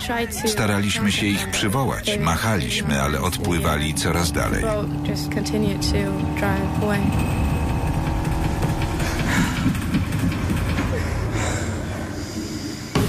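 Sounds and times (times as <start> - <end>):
low engine-like rumble: 0.0 - 12.9.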